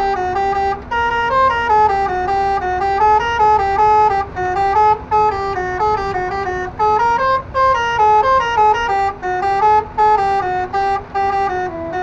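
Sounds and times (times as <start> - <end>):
truck air horns playing melody: 0.0 - 12.0.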